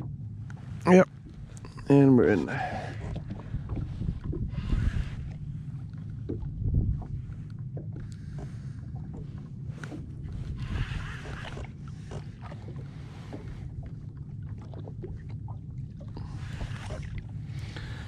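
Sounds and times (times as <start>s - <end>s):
water lapping against hull: 0.0s - 18.0s
wind rumbling on microphone: 0.0s - 18.0s.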